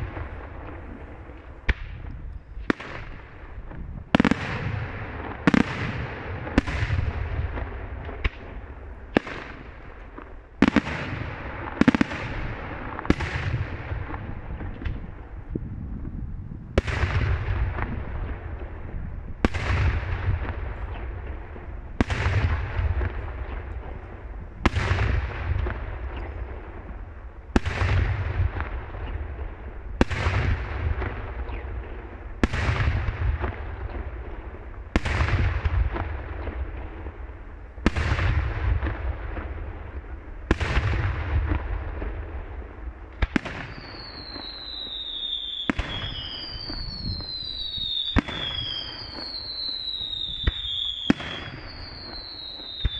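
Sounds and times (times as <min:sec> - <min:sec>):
fireworks booms with echoing rumble: 0:00.0 - 0:52.9.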